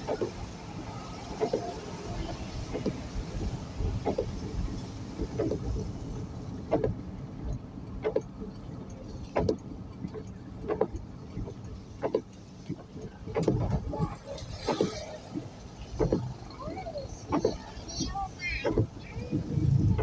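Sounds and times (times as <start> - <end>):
road and engine rumble: 0.0 - 20.0
windshield wipers sweeping: 0.0 - 20.0.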